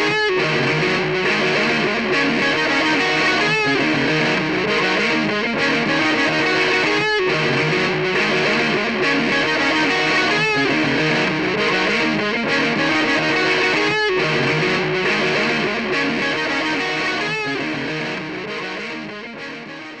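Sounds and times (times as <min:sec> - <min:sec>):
distorted electric guitar: 0:00.0 - 0:20.0.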